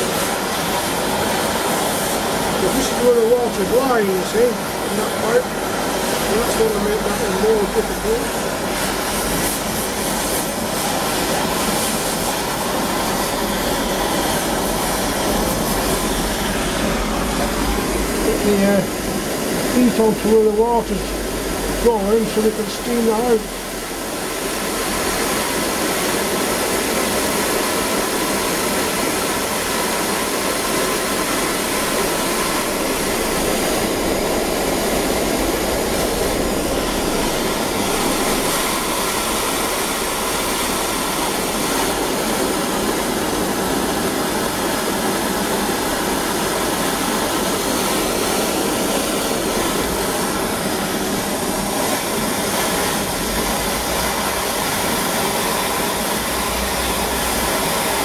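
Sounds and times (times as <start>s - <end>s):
blowlamp flame hissing: 0.0s - 58.0s.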